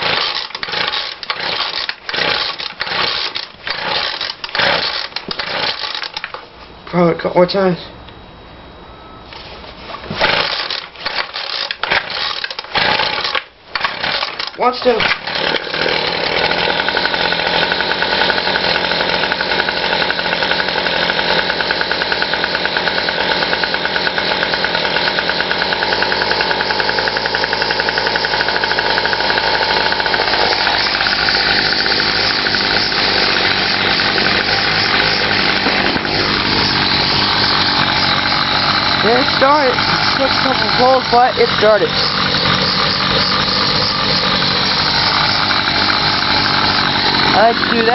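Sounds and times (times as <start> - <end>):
string trimmer engine starting: 0.0 - 6.4, 9.9 - 47.9.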